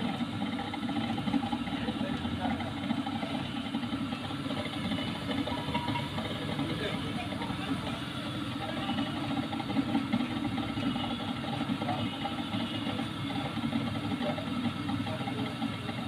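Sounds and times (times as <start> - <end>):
potter's wheel humming: 0.0 - 16.0.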